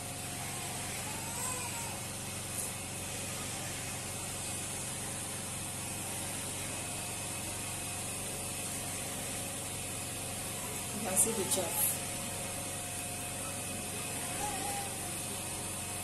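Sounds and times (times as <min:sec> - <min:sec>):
steady hum and hiss: 0:00.0 - 0:16.0.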